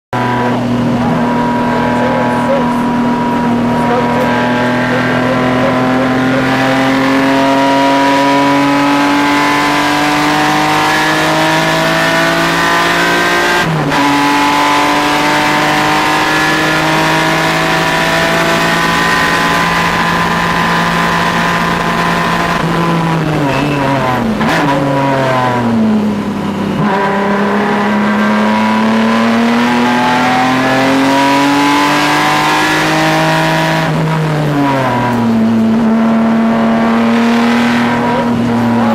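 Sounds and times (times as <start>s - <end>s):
race car engine revving: 0.1s - 38.9s.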